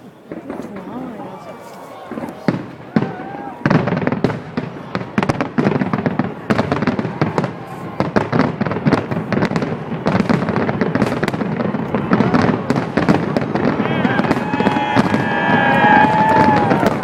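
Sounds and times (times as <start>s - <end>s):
firework cracks and pops: 0.0s - 17.0s
rumble of firework bursts: 2.1s - 17.0s.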